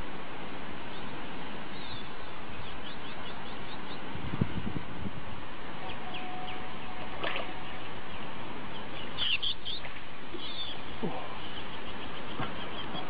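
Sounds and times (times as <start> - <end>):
steady background hiss: 0.0 - 13.0
birds chirping: 0.9 - 4.7, 5.8 - 13.0.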